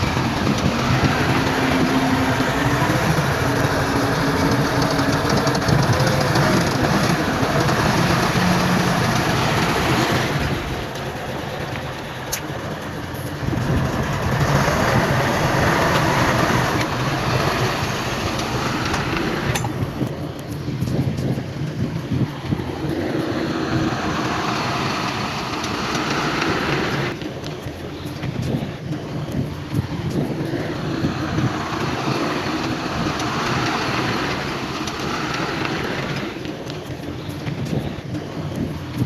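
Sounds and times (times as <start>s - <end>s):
heavy diesel machinery rumble: 0.0s - 39.0s.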